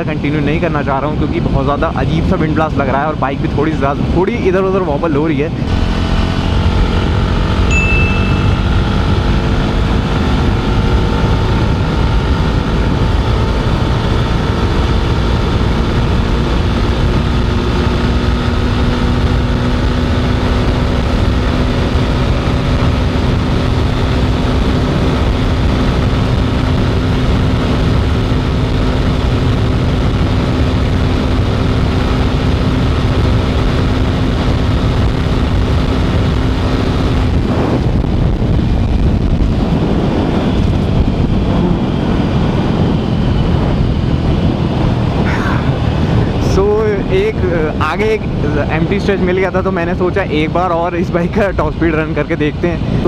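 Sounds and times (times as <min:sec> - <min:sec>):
wind rushing on microphone: 0:00.0 - 0:53.0
motorcycle engine running: 0:05.6 - 0:50.5.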